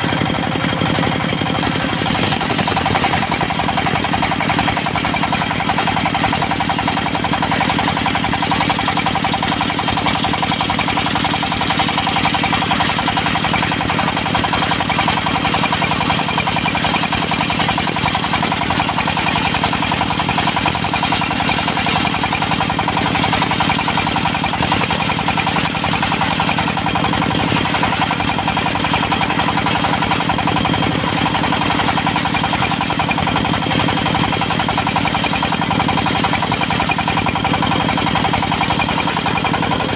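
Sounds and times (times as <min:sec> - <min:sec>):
circular sawmill running: 0:00.0 - 0:39.9.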